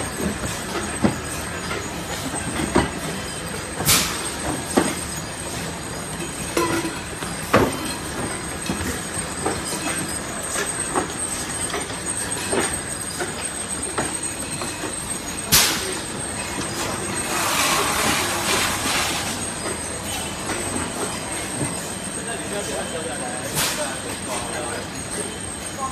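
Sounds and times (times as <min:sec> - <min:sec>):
packaging machinery running: 0:00.0 - 0:25.8.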